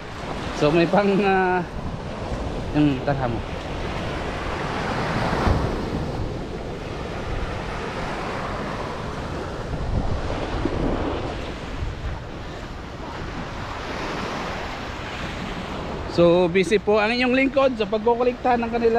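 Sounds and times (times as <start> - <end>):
small waves washing on sand: 0.0 - 18.9
wind buffeting microphone: 0.0 - 18.9.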